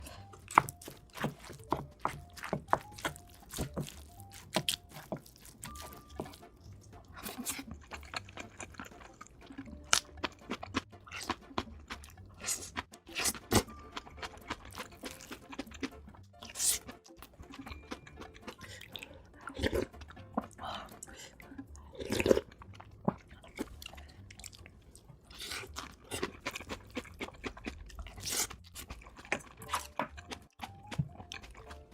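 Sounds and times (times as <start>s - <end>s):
chewing: 0.0s - 31.9s.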